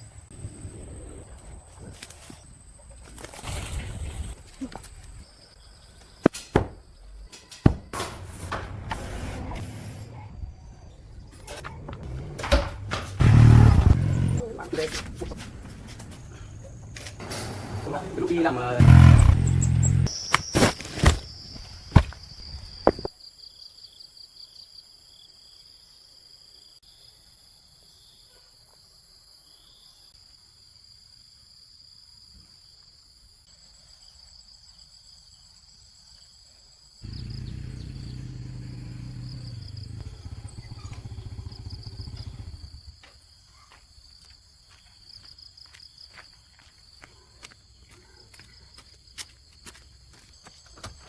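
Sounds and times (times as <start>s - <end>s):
insects chirping: 0.0s - 51.0s.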